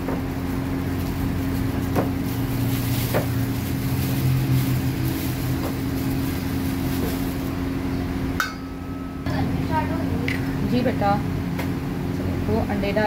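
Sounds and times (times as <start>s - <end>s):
electrical hum of machinery: 0.0s - 13.0s.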